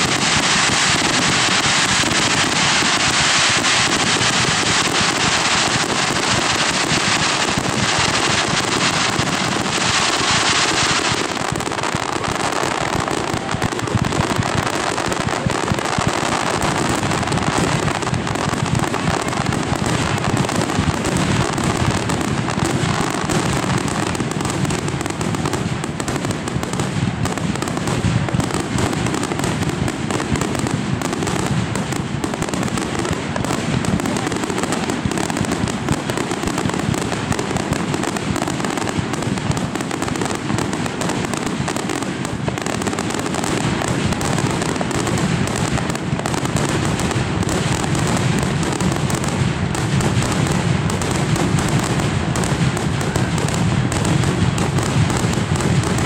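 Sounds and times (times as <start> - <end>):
fireworks bursting with crackling: 0.0 - 56.0.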